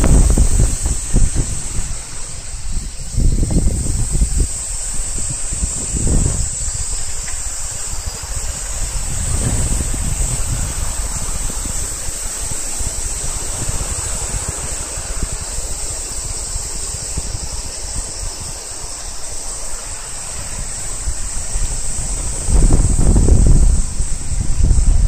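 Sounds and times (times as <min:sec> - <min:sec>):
cicadas droning: 0:00.0 - 0:25.0
wind rumbling on microphone: 0:00.0 - 0:25.0.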